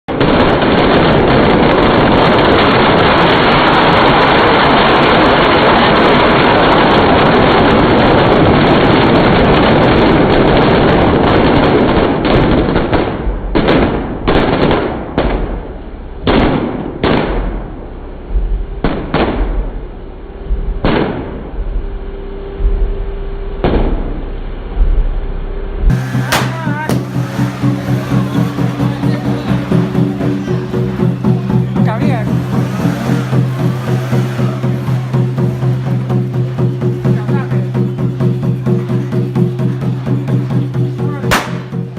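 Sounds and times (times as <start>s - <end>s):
firecrackers crackling and banging: 0.0s - 20.1s, 20.8s - 21.6s, 25.9s - 41.9s.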